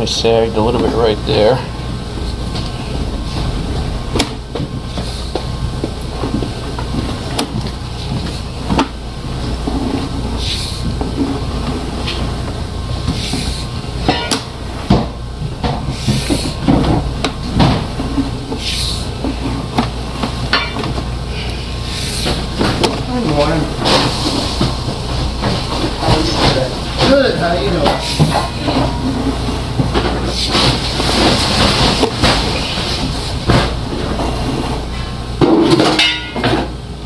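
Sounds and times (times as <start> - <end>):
drain machine humming: 0.0 - 37.0.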